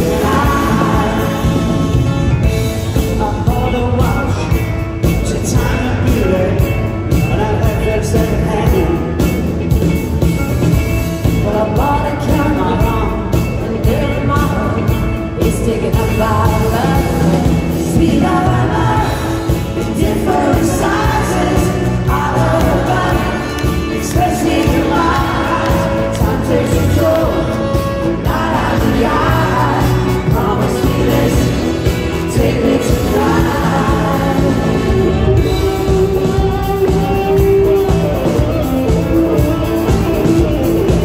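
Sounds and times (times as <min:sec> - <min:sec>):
lead vocal singing: 0:00.0 - 0:10.0, 0:11.1 - 0:41.0
live pop-rock band playing: 0:00.0 - 0:41.0.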